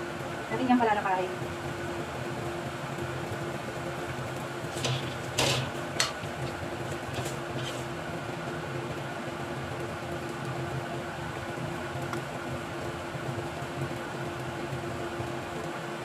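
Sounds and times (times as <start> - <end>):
kitchen fan humming: 0.0 - 16.0.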